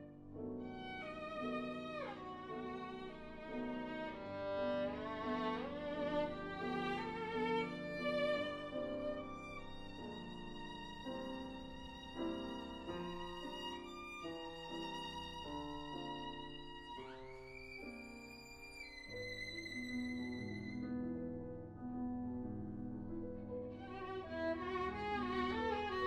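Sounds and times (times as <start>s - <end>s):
violin playing sustained notes: 0.0s - 20.9s, 23.7s - 26.0s.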